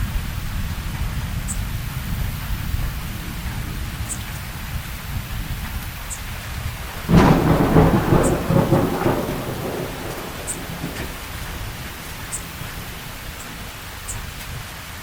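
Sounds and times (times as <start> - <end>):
thunderclap: 0.0 - 14.7
steady rain: 0.0 - 15.0.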